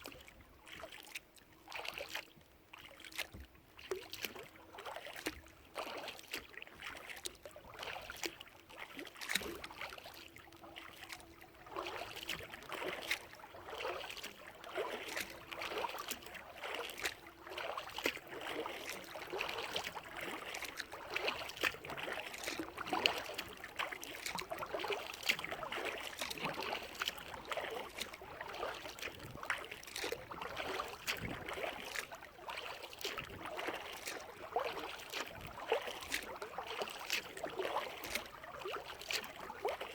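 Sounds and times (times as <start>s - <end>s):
kayak paddle splashing water: 0.0s - 39.9s.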